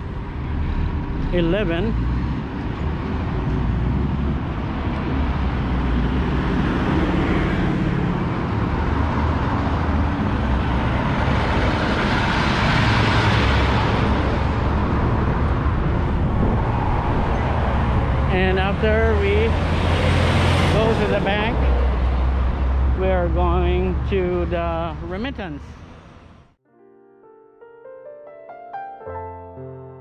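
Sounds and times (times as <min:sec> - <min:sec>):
road traffic: 0:00.0 - 0:26.6
vehicle passing close by: 0:00.0 - 0:26.6.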